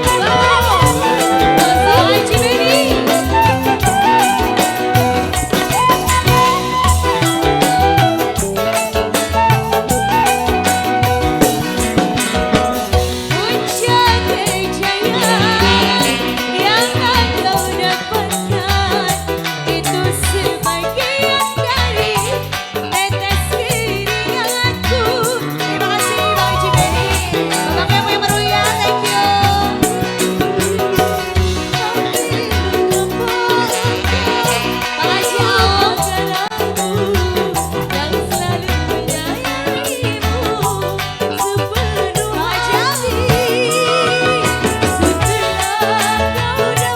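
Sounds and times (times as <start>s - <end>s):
band music with hand drums: 0.0s - 46.9s.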